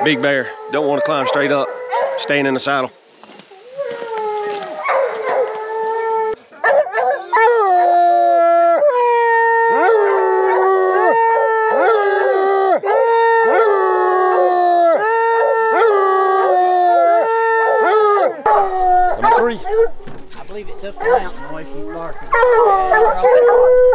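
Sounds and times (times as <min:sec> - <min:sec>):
hounds howling: 0:00.0 - 0:02.8, 0:03.6 - 0:23.9.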